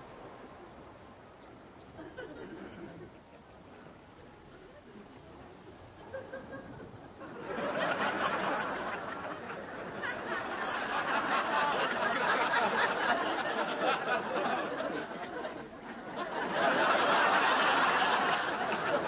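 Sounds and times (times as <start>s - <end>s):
audience laughing: 1.8s - 4.0s, 6.0s - 19.0s.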